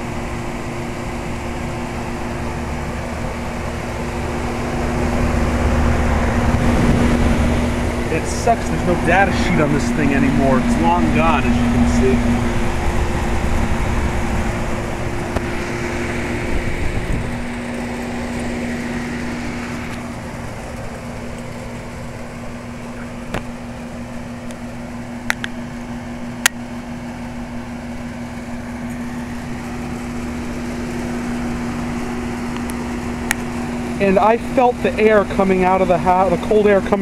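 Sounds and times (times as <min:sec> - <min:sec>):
compressor hum: 0:00.0 - 0:37.0
condenser fan whooshing: 0:00.0 - 0:37.0.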